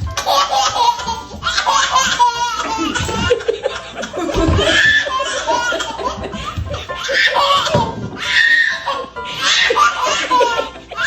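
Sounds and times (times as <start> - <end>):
high-pitched laughter: 0.2 - 11.0.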